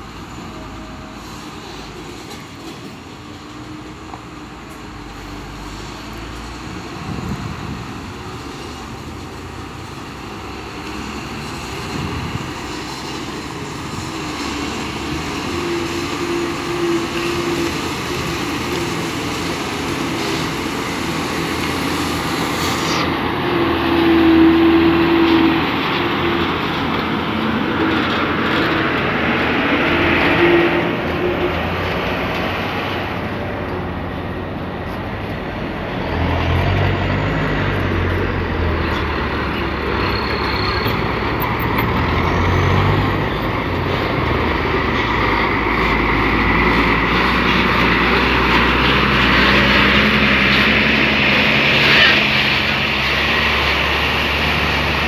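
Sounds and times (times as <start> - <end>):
heavy truck engine and road noise: 0.0 - 55.0.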